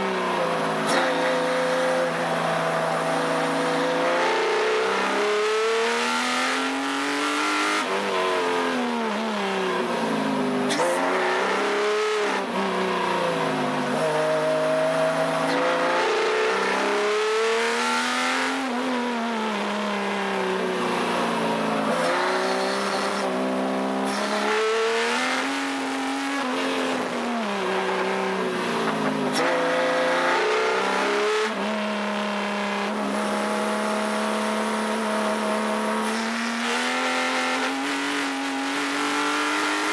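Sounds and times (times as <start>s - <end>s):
car engine revving on track: 0.0s - 39.9s.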